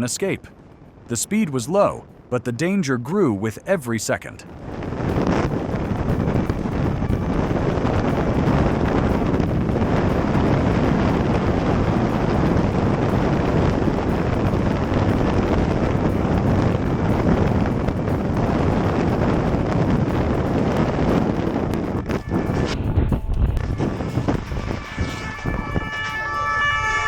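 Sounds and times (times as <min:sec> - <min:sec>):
wind rush on microphone: 0:00.0 - 0:27.0
motorcycle running noise: 0:04.5 - 0:27.0.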